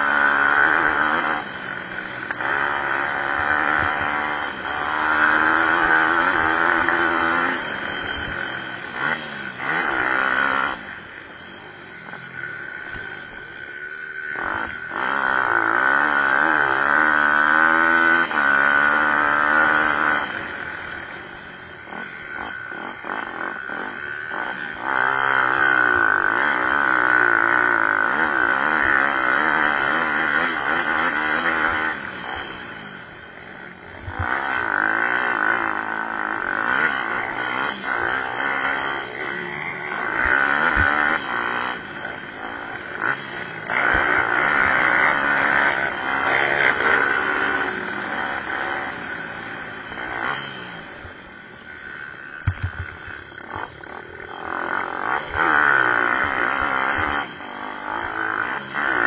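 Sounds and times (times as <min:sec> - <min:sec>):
motorbike engines revving past: 0:00.0 - 0:59.0.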